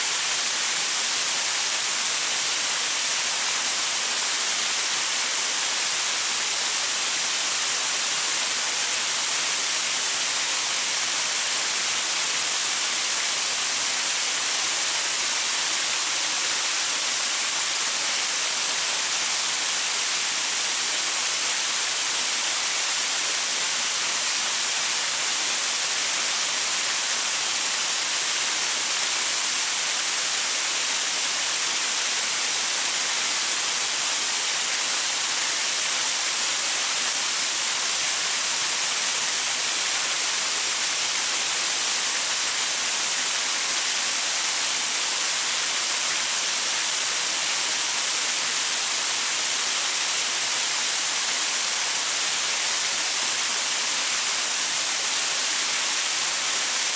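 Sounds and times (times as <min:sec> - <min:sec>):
waterfall splashing onto rocks: 0:00.0 - 0:56.9.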